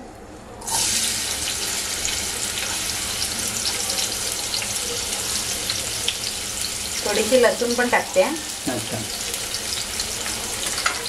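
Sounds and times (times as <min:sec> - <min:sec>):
onions sizzling in hot oil: 0:00.6 - 0:11.0.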